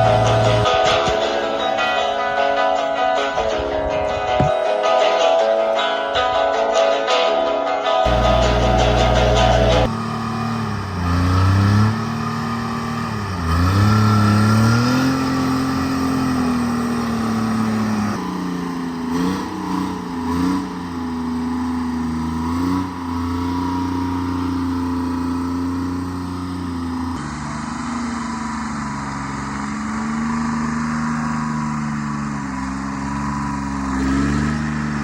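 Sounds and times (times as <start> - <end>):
diesel engine under load: 0.0 - 6.9, 8.0 - 35.0.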